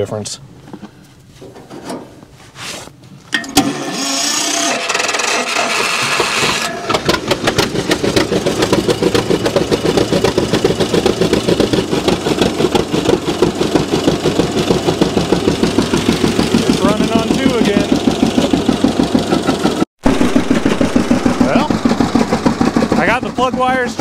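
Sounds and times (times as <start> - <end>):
tractor engine cranking: 3.3 - 24.0
tractor engine running: 3.6 - 24.0.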